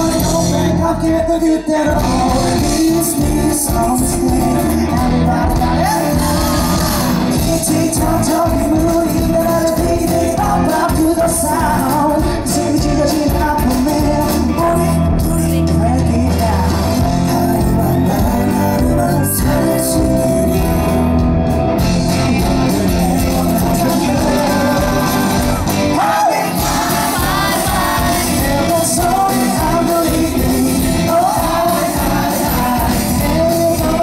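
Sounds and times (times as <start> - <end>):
bass guitar: 0.0 - 34.0
drum kit: 0.0 - 34.0
electric guitars: 0.0 - 34.0
person singing: 0.0 - 34.0.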